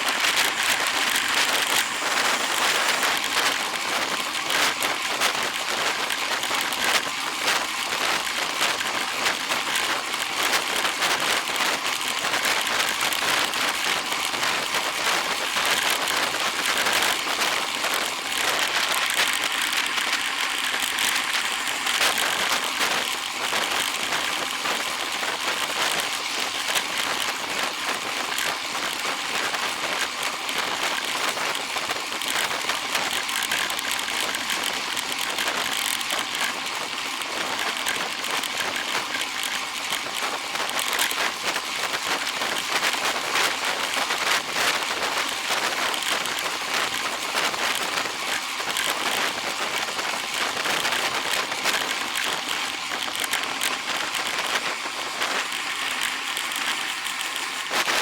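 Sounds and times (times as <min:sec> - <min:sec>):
dense crackling patter: 0:00.0 - 0:58.0.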